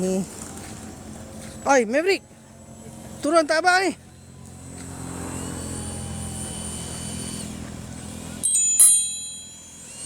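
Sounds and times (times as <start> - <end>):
model airplane motor drone: 0.0 - 10.0.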